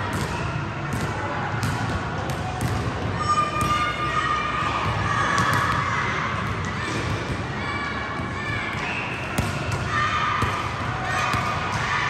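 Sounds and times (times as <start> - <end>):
basketballs bouncing on court: 0.0 - 3.8, 4.8 - 7.5, 8.2 - 12.0.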